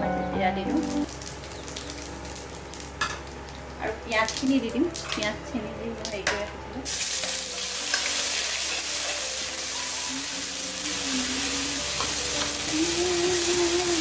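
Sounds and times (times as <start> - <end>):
onion sizzling in hot oil: 0.8 - 5.2, 6.8 - 14.0.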